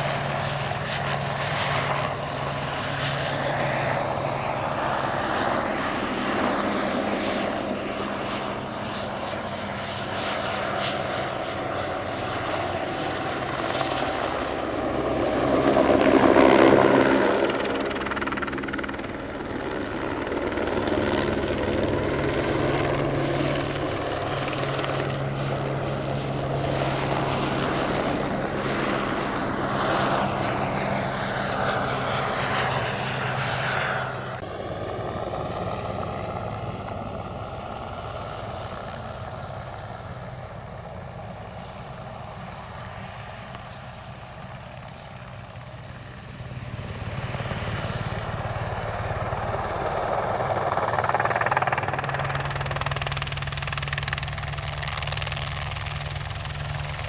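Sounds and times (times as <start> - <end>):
distant helicopter: 0.0 - 57.0
helicopter rotor and turbine: 0.0 - 57.0.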